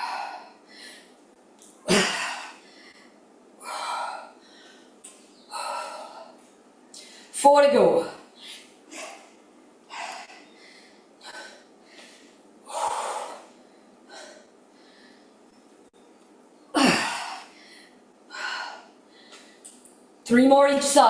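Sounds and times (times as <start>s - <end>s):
woman breathing hard: 0.0s - 1.2s, 1.9s - 7.4s, 8.3s - 15.5s, 16.8s - 19.8s.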